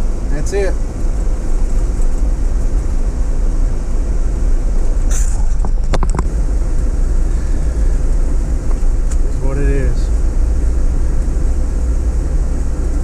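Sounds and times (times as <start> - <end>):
vehicle cabin road and engine drone: 0.0 - 13.0.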